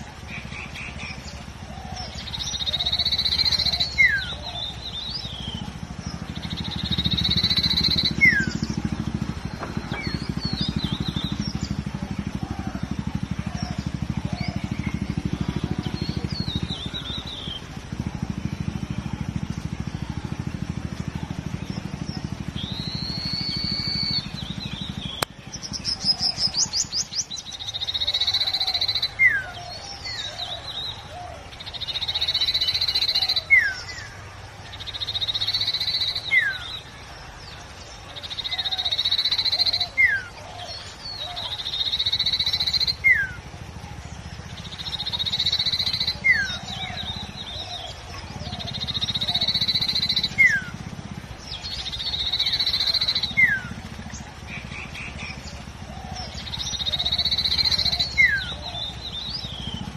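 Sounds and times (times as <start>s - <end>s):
rapid bird notes: 0.0s - 59.9s
songbird buzzy song: 0.0s - 59.9s.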